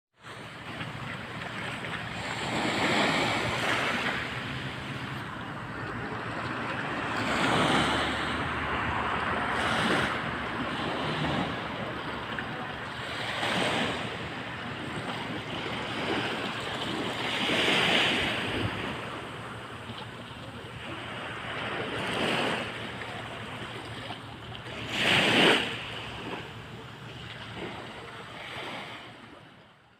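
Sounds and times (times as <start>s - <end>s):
waves breaking: 0.2s - 29.9s.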